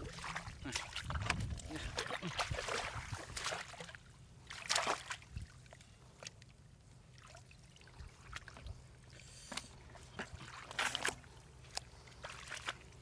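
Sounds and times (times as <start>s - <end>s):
shallow water sloshing: 0.0s - 13.0s.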